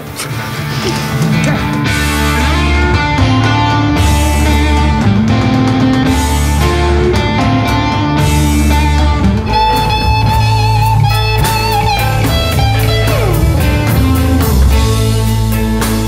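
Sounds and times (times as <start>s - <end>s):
bass guitar: 0.0s - 16.0s
drum kit: 0.0s - 16.0s
electric guitar lead with bent notes: 0.0s - 16.0s.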